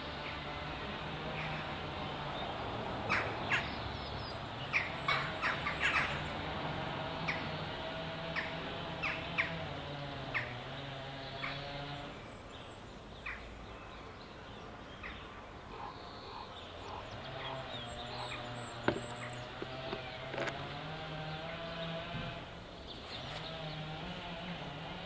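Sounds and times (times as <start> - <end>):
small birds chirping: 0.0 - 6.5, 7.1 - 25.0.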